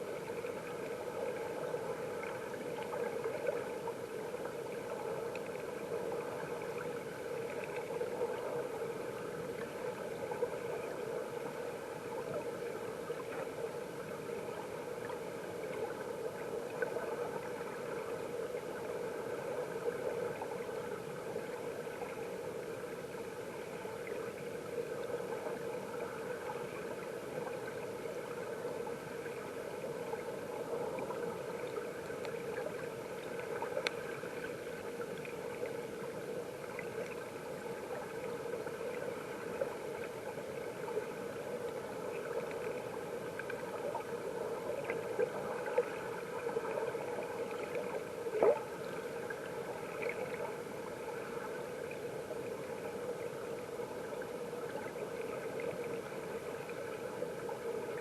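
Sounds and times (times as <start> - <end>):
muffled underwater stream rush: 0.0 - 58.0.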